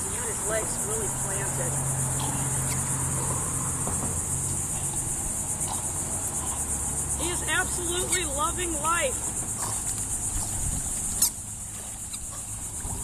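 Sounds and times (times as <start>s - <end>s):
insects chorus shrilling: 0.0s - 13.0s.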